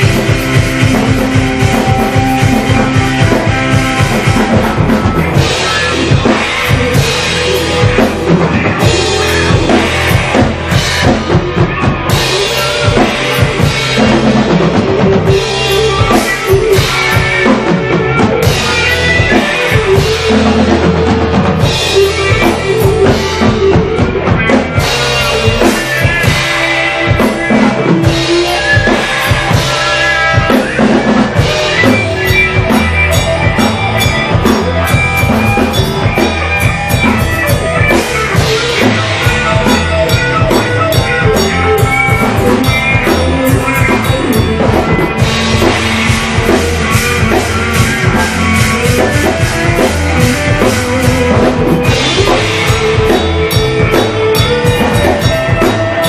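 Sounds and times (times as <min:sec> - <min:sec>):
bass guitar: 0:00.0 - 0:56.0
drum kit beat: 0:00.0 - 0:56.0
electric guitars: 0:00.0 - 0:56.0
rock band playing: 0:00.0 - 0:56.0.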